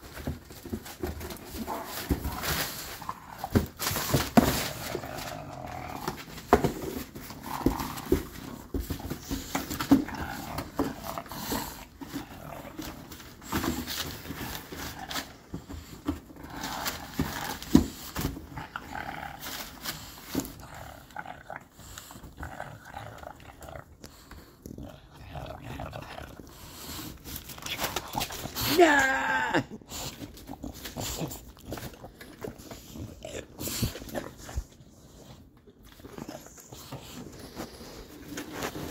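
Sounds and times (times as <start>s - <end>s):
puppy growling and grunting: 0.2s - 38.9s.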